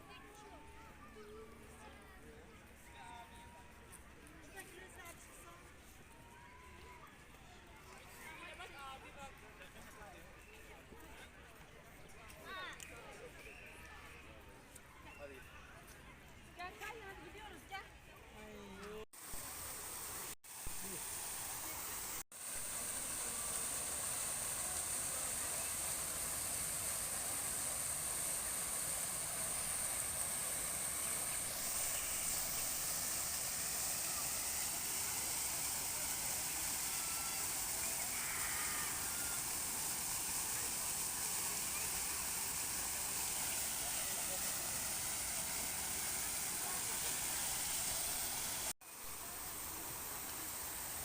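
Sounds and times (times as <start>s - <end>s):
steady outdoor hiss: 0.0s - 51.0s.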